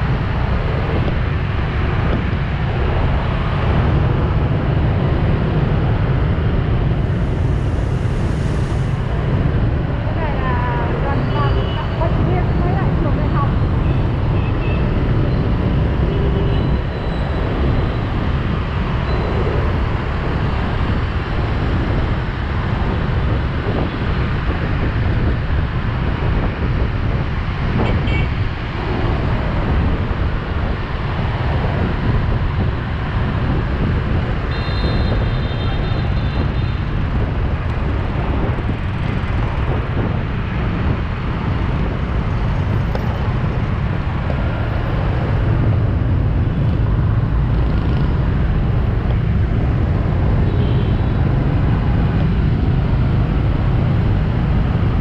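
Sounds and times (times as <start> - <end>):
motorbike engines rumbling: 0.0 - 55.0
road noise: 0.0 - 55.0.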